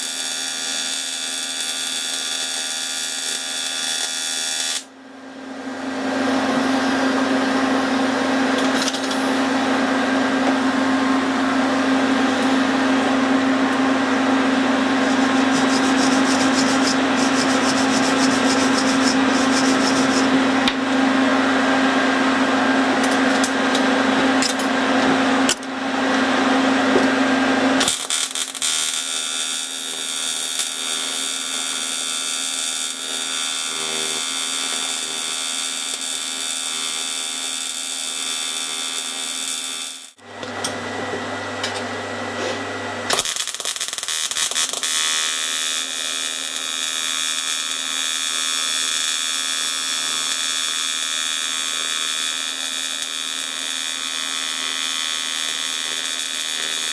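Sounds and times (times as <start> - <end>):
welding arc buzzing: 0.0 - 5.0, 5.7 - 25.6, 26.4 - 40.5, 43.1 - 56.9.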